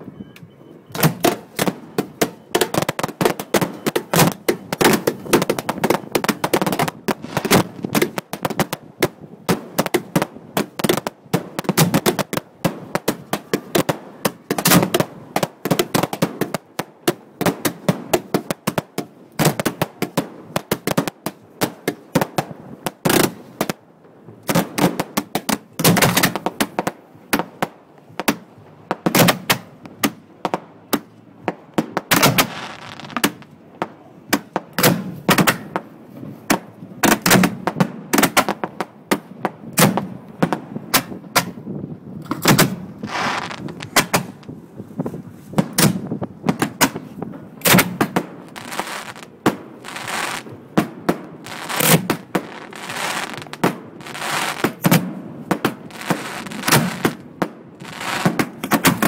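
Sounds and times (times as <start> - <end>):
fireworks bangs: 0.9 - 59.0.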